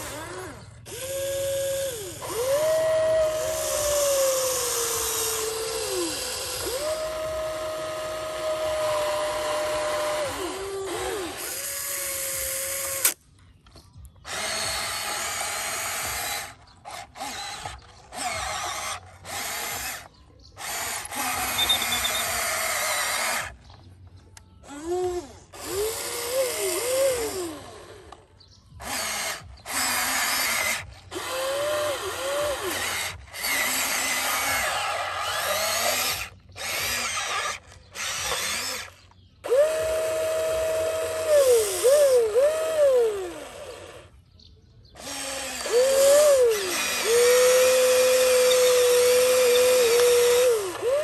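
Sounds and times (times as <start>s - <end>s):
small electric motors whining: 0.0s - 51.0s.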